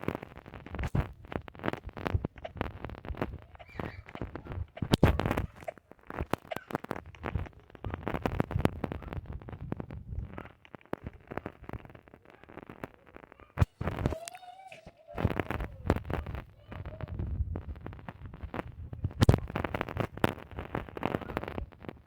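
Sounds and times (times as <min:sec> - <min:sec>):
irregular crackling and clicking: 0:00.0 - 0:22.0.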